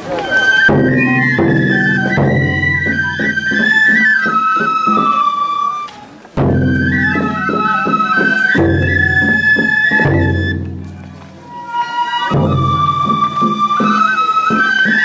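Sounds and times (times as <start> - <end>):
low drum strokes: 0.0 - 15.0
transverse flutes playing melody: 0.0 - 15.0.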